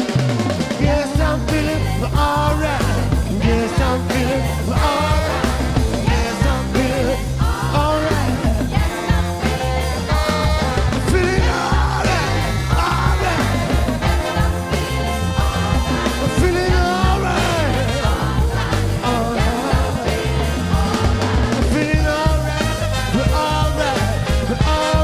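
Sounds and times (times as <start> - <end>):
rock-soul band playing: 0.0 - 25.0.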